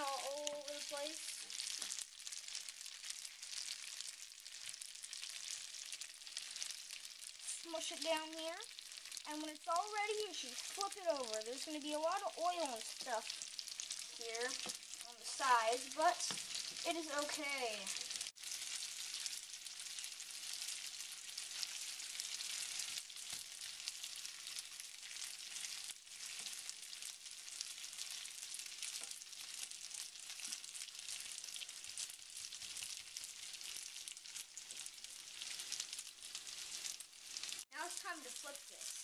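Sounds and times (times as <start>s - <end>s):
crackling sizzle in frying pan: 0.0s - 39.0s.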